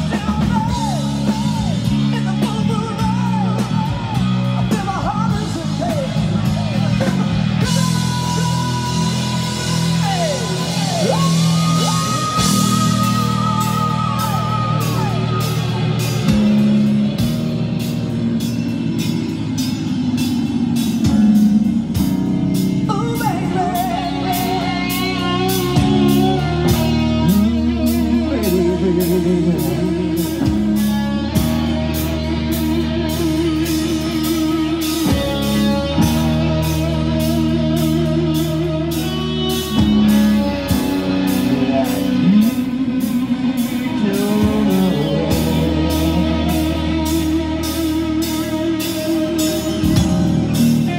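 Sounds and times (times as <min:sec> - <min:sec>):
drum kit beat: 0:00.0 - 0:50.9
electric guitar chords: 0:00.0 - 0:50.9.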